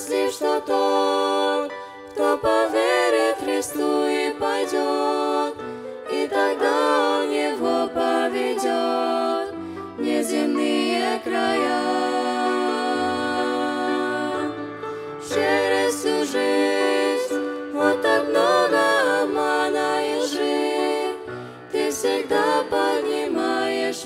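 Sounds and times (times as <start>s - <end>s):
vocal trio singing in harmony: 0.0s - 24.0s.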